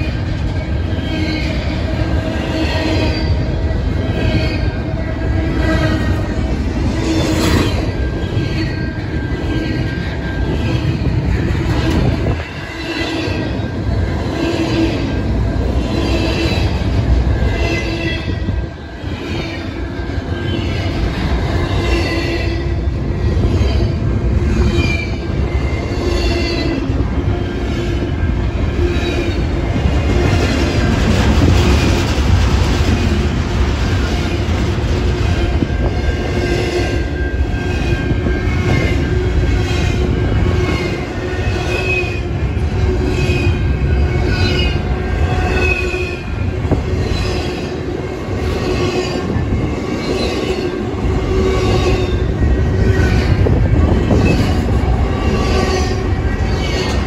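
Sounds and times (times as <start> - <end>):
freight train passing: 0.0 - 57.0
steel wheels squealing on rails: 0.0 - 57.0.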